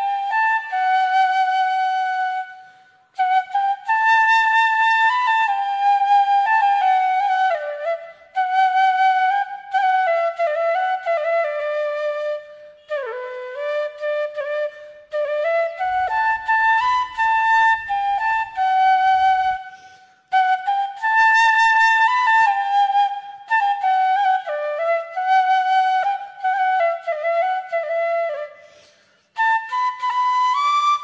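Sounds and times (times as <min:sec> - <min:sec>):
solo flute melody: 0:00.0 - 0:31.0.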